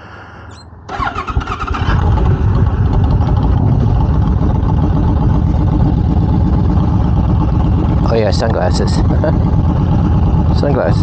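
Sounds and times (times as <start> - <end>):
motorcycle engine starting and idling: 0.9 - 11.0.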